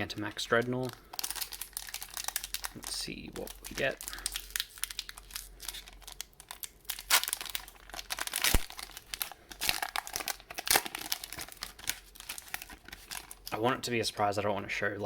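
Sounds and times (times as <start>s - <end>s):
foil wrapper crinkling: 0.0s - 14.3s.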